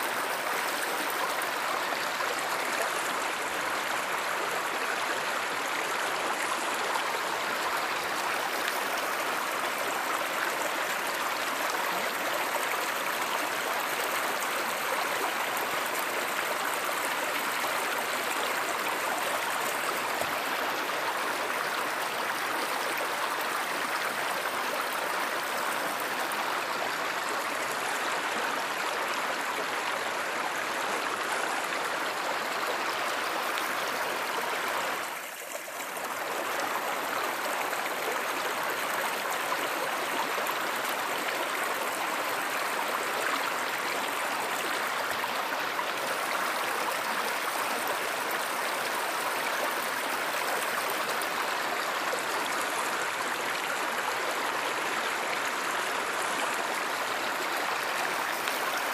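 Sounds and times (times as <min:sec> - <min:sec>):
stream water rushing and gurgling: 0:00.0 - 0:58.9.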